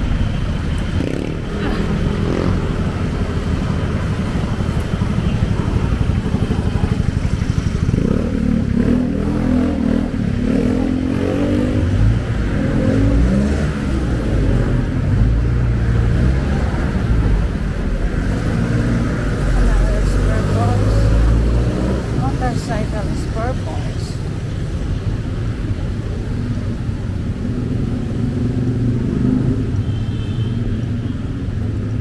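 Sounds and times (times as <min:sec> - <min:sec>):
car engines: 0:00.0 - 0:32.0
motorcycle engines: 0:00.0 - 0:32.0.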